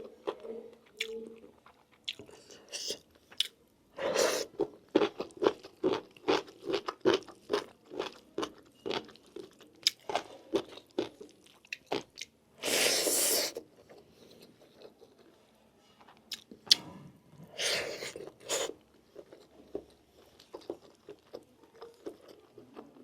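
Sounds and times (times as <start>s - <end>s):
person chewing food: 0.0s - 15.4s, 16.0s - 23.0s.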